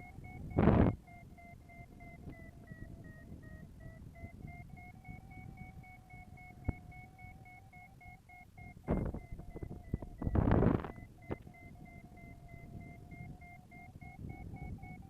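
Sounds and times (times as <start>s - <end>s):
variometer beeping: 0.0s - 15.0s.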